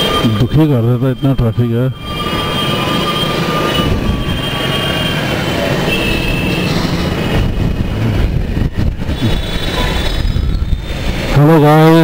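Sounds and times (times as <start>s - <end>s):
high-pitched squeals: 0.0s - 12.0s
low rumble of traffic engines: 0.0s - 12.0s.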